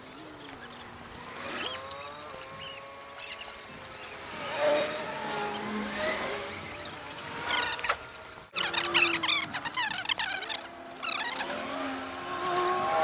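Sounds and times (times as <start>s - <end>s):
sped-up squeaky voices: 0.3s - 12.6s.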